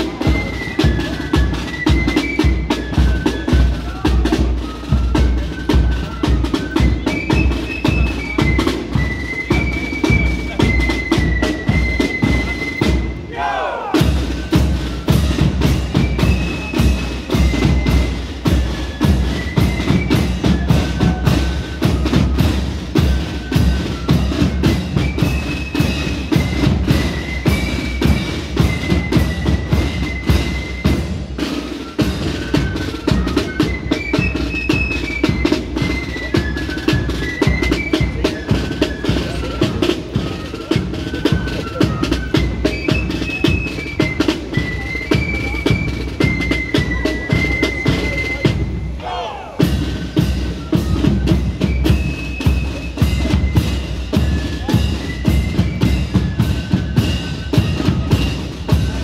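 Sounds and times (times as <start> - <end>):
flute melody: 0.0 - 59.0
rattling snare drums: 0.0 - 59.0.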